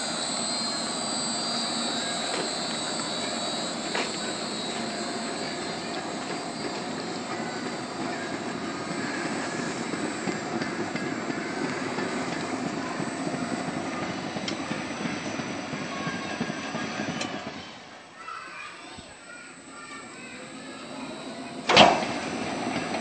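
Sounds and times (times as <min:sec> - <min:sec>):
belt conveyor running: 0:00.0 - 0:18.6, 0:19.2 - 0:23.0
thin high whine: 0:00.0 - 0:23.0.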